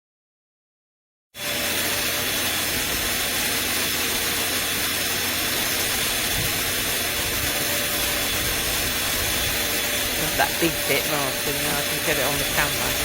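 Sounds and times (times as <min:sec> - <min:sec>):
pool vacuum motor whirring: 0:01.4 - 0:13.0.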